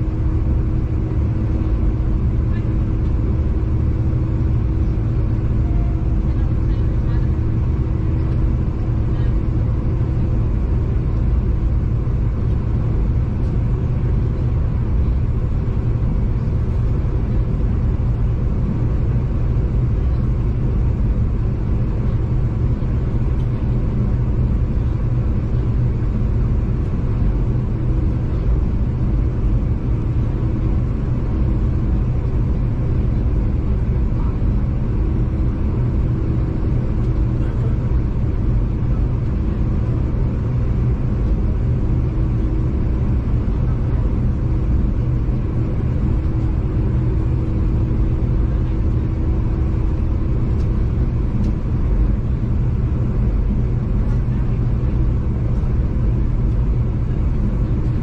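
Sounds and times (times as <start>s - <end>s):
faint constant hum: 0.0s - 58.0s.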